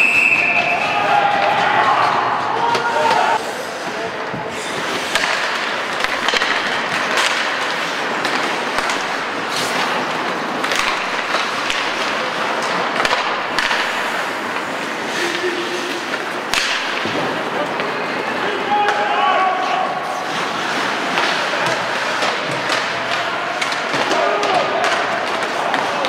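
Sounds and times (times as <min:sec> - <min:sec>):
hockey sticks and puck clacking: 0:00.0 - 0:26.0
skate blades scraping ice: 0:01.8 - 0:26.0.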